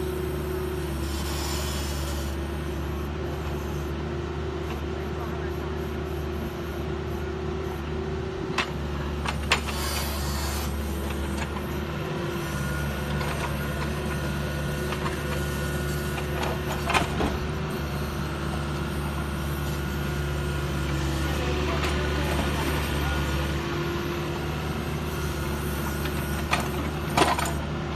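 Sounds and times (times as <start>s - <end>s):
excavator engine and hydraulics: 0.0s - 27.9s.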